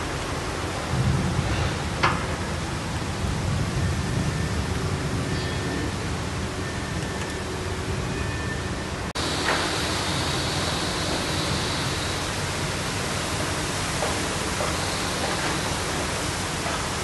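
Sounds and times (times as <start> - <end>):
floodwater rushing along street: 0.0 - 8.2, 8.8 - 17.0
heavy rain: 0.0 - 17.0.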